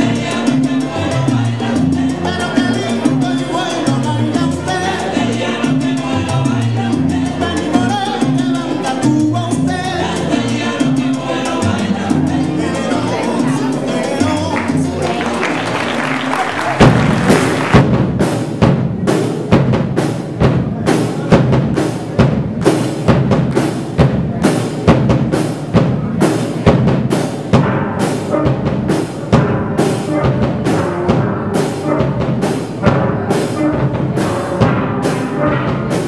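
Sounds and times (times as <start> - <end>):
drum kit beat: 0.0 - 36.0
steel pan band playing: 0.0 - 36.0.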